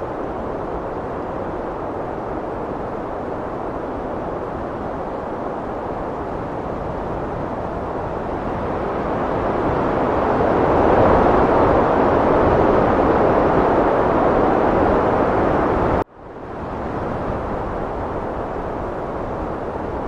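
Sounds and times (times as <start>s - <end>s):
heavy wind blowing: 0.0s - 20.0s.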